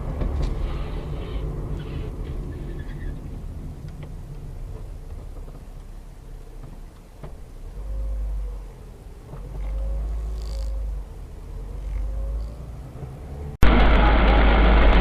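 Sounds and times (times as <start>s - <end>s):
car rumbling while driving: 0.0s - 15.0s.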